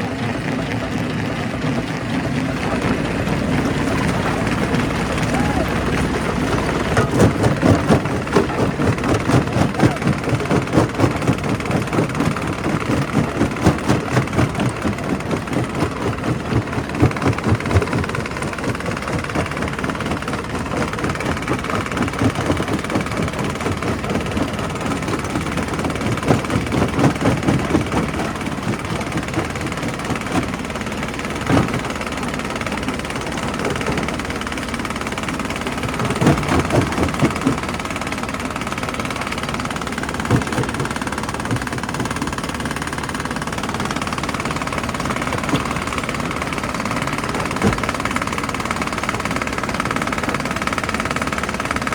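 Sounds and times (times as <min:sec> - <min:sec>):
rock crusher drone: 0:00.0 - 0:51.9.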